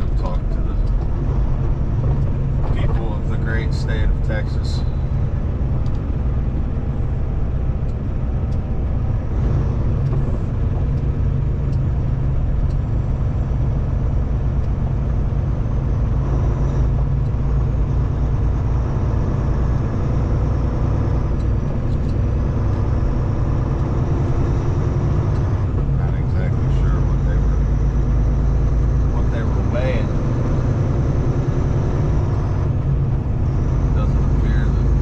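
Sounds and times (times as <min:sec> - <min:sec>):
road noise: 0:00.0 - 0:35.0
truck engine drone: 0:00.0 - 0:35.0.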